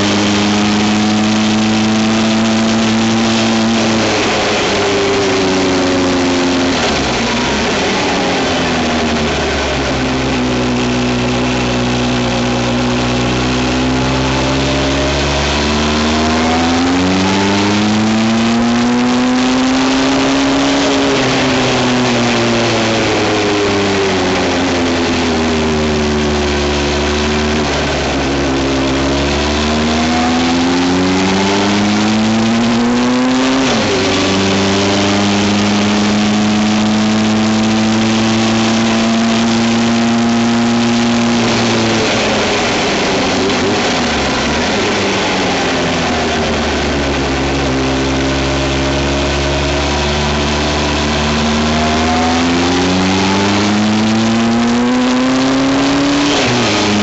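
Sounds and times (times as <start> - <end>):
road and wind noise: 0.0 - 57.0
vehicle engine accelerating: 0.0 - 57.0.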